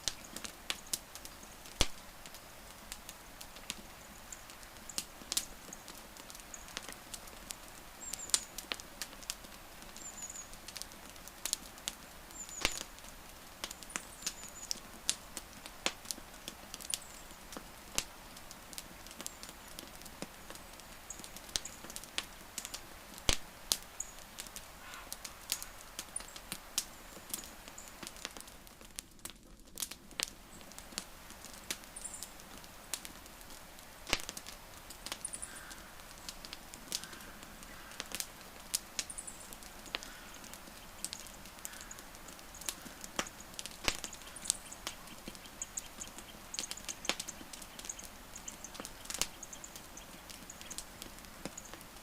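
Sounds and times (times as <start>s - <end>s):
low hiss of burning: 0.0s - 52.0s
sharp pops and snaps: 0.0s - 52.0s
wood fire crackling: 0.0s - 52.0s.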